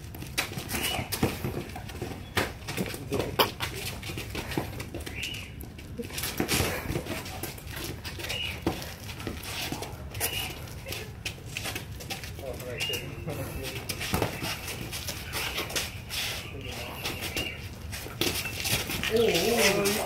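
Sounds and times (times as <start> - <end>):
sneakers scuffing on concrete: 0.3 - 20.0.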